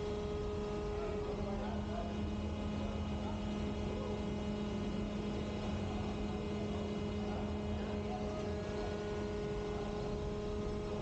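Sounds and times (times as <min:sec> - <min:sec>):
hydraulic steering gear pump drone: 0:00.0 - 0:11.0.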